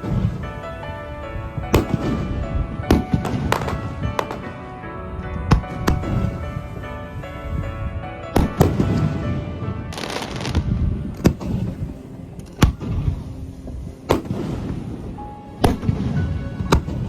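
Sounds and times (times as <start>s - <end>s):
fireworks booming with echo: 0.0s - 7.8s, 8.4s - 17.0s.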